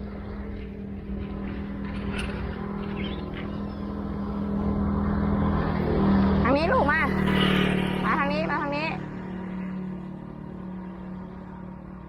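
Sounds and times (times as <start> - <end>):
motor engine humming: 0.0 - 12.0.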